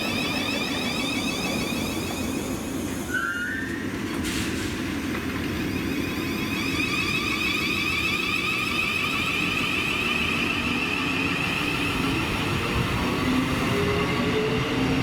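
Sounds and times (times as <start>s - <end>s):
high wavering train whine: 0.0s - 15.0s
train wheels rumbling on rail: 0.0s - 15.0s.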